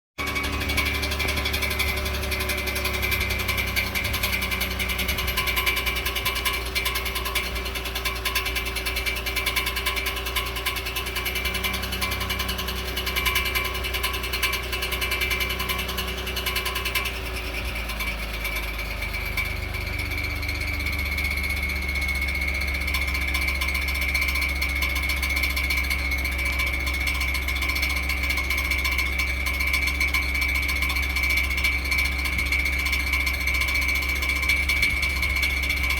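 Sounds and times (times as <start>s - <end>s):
truck engine idling: 0.2s - 35.9s.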